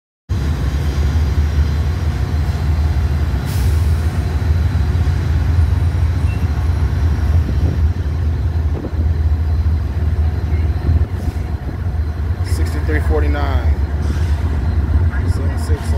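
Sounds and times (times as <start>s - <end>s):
diesel locomotive engines rumbling: 0.3s - 15.9s.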